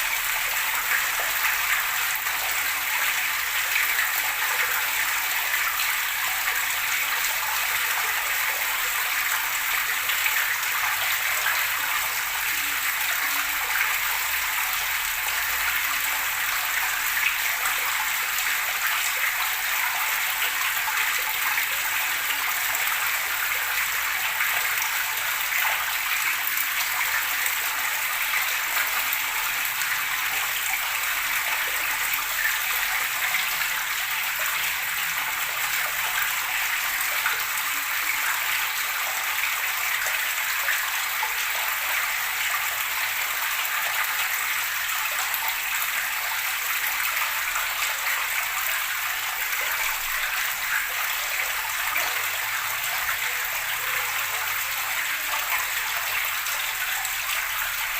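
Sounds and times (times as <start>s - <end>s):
running water gurgling and splashing: 0.0s - 57.9s.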